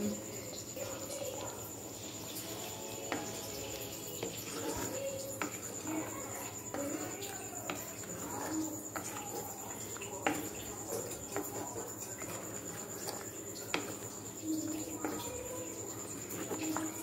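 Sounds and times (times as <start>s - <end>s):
wooden ladle stirring thick curry: 1.7s - 17.0s.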